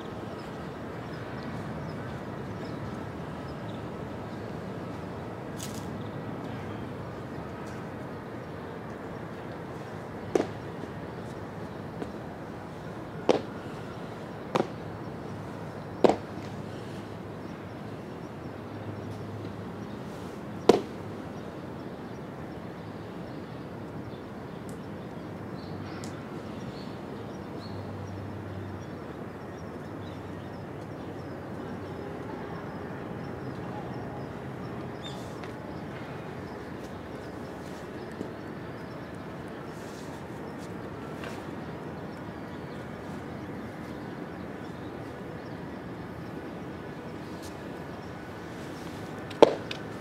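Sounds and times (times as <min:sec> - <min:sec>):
outdoor background hiss: 0:00.0 - 0:50.0.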